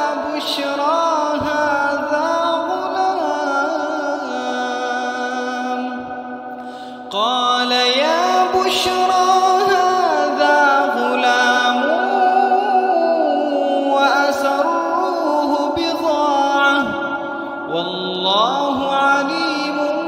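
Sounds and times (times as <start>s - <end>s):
man chanting melodically: 0.0s - 6.3s, 7.0s - 20.0s.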